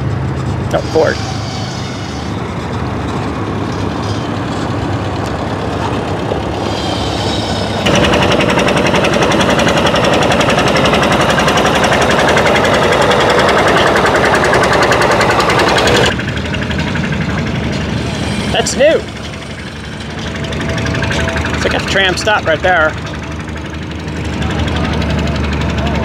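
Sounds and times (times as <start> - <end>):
loud engine with rapid firing beats: 0.0 - 26.0
tractor engine running: 0.0 - 26.0.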